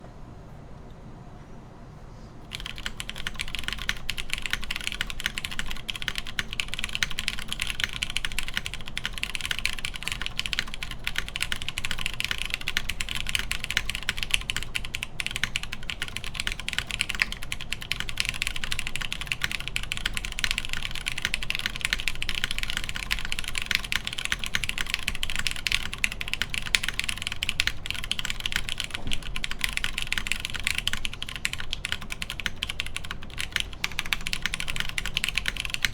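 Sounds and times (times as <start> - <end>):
fast typing on mechanical keyboard: 2.5 - 35.9.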